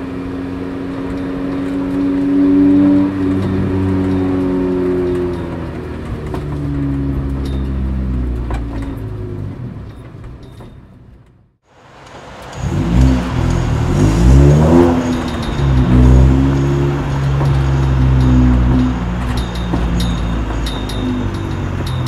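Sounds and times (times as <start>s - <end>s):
another engine: 0.0s - 22.0s
car engine at low revs: 0.0s - 22.0s.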